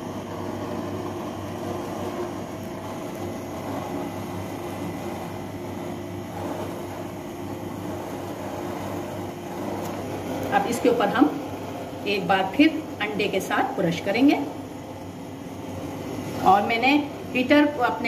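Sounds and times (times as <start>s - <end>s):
mechanical hum with low drone: 0.0s - 18.0s.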